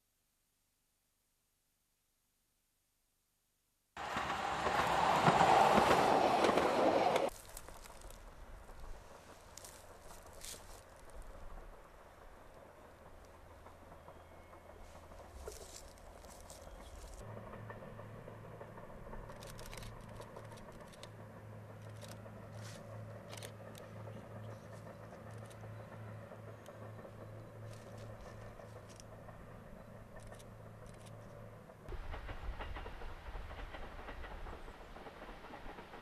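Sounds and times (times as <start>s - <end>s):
diesel railcar engine drone: 4.0s - 36.0s.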